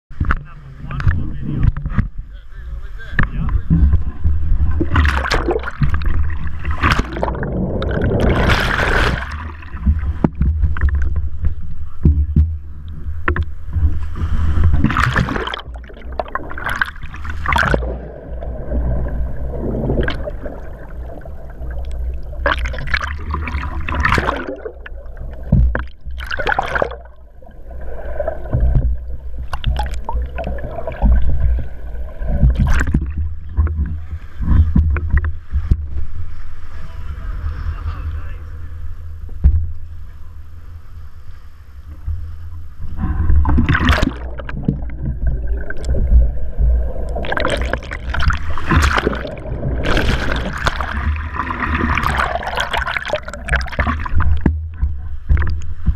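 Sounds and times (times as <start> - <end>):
muffled water sloshing: 0.1 - 55.9
steady low rumble: 0.1 - 55.9
water splashes: 0.1 - 55.9.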